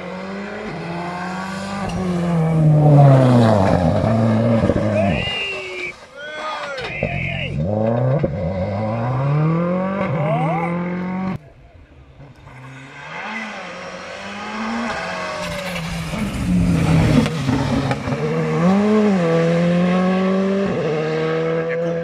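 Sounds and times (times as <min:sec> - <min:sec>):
rally car engine revving: 0:00.0 - 0:06.0, 0:06.7 - 0:11.4, 0:12.1 - 0:22.0.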